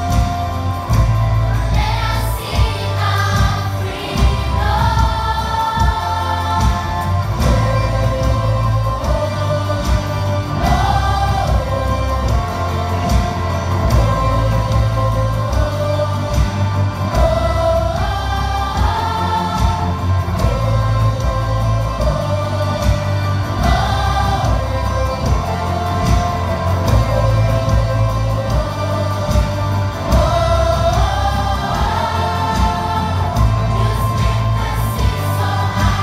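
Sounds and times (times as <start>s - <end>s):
amplified accompaniment with heavy bass: 0.0s - 36.0s
children's choir singing gospel: 0.0s - 36.0s.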